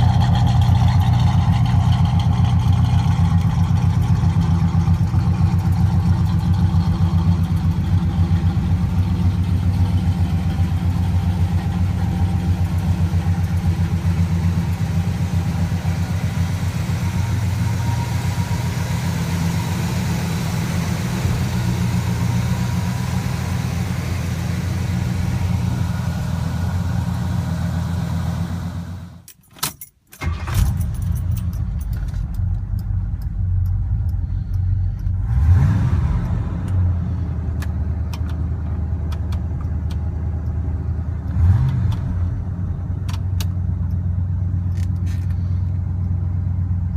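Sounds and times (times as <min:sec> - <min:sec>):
car engine idling: 0:00.0 - 0:29.2, 0:30.2 - 0:41.4, 0:42.3 - 0:46.9.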